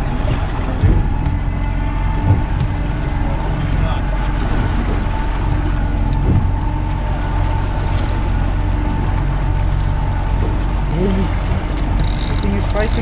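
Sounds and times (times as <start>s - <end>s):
outboard motor running: 0.0s - 13.0s
water rushing: 0.0s - 13.0s
wind: 0.0s - 13.0s.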